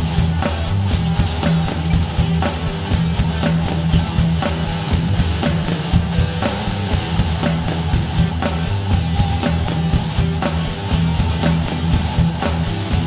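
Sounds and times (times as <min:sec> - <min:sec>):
rock music with fast drum beat: 0:00.0 - 0:13.0.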